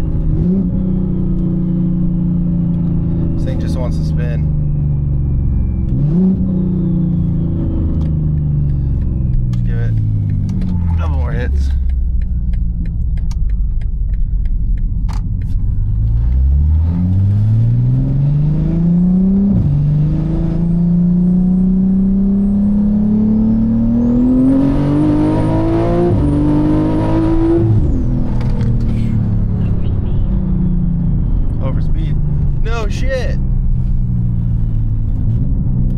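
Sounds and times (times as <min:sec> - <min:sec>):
car engine accelerating hard: 0:00.0 - 0:35.9.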